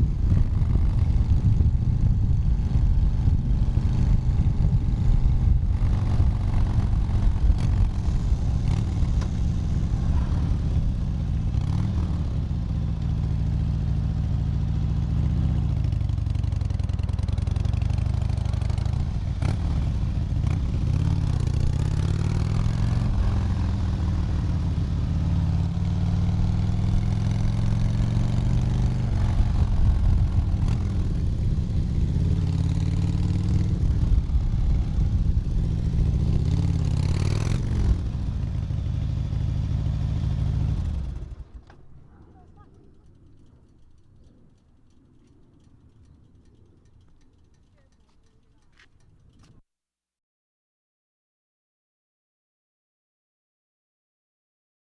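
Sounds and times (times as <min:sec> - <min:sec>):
motorcycle engine revving: 0:00.0 - 0:49.6.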